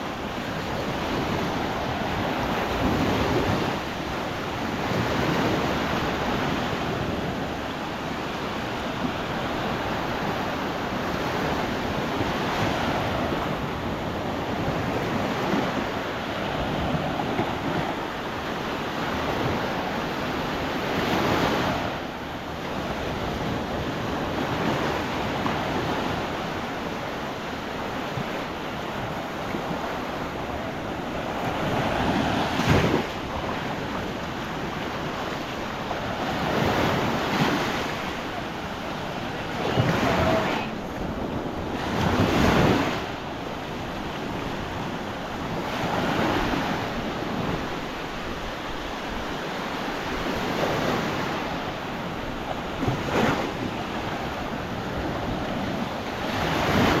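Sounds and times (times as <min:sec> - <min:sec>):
waves washing onto beach: 0:00.0 - 0:57.0
wind buffeting microphone: 0:00.0 - 0:57.0.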